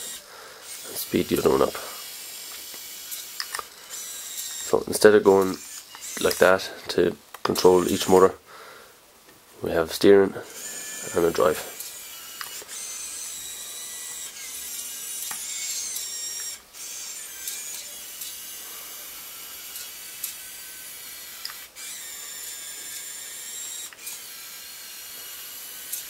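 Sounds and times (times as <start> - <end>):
small electric motors whining: 0.0 - 6.6, 7.8 - 8.3, 10.4 - 26.0.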